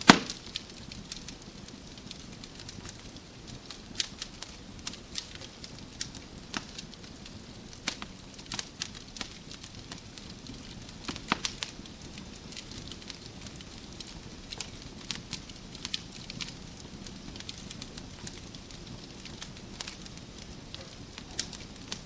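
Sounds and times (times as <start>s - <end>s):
fire popping and snapping: 0.0s - 22.0s
wood fire crackling: 0.0s - 22.0s.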